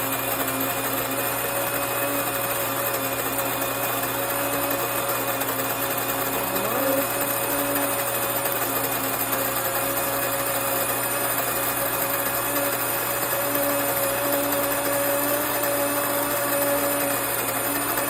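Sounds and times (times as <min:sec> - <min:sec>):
electric grain mill grinding: 0:00.0 - 0:18.0.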